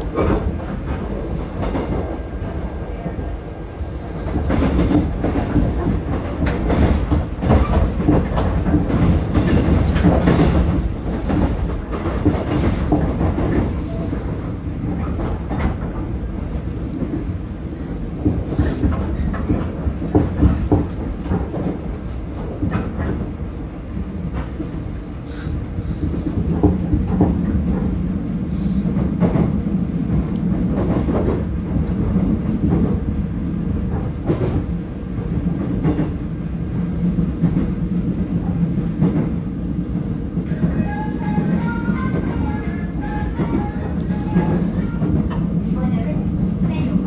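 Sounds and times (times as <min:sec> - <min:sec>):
train running low rumble: 0:00.0 - 0:47.0.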